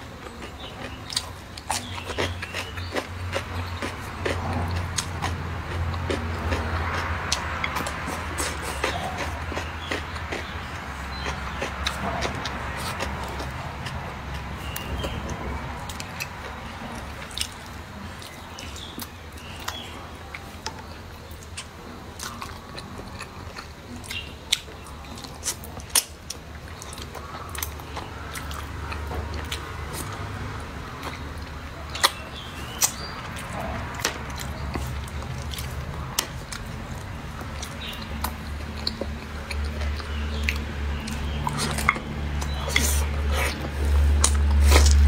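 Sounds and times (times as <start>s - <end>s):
person chewing food: 0.0s - 45.0s.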